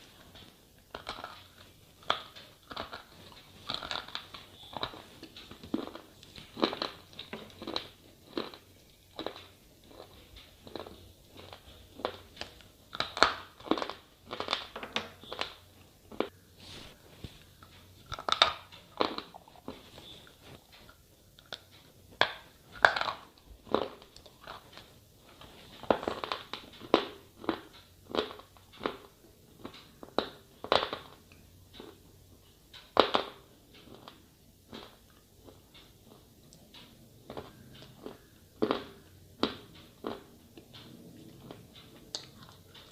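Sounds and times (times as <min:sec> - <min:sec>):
chewing crunches: 0:00.2 - 0:16.4, 0:17.6 - 0:32.0, 0:33.0 - 0:36.6, 0:37.2 - 0:42.9.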